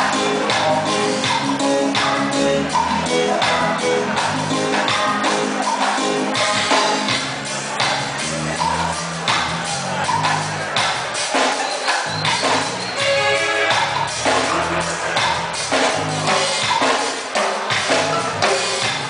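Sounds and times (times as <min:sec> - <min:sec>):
live reggae band playing: 0:00.0 - 0:19.0.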